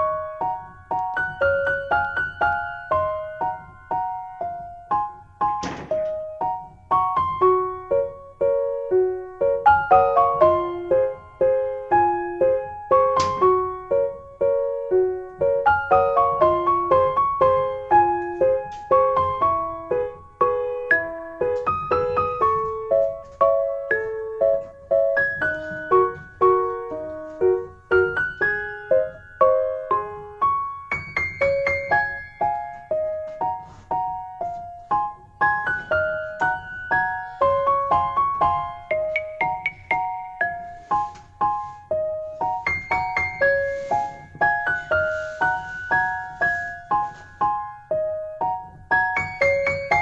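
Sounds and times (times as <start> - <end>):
gentle piano melody: 0.0 - 50.0.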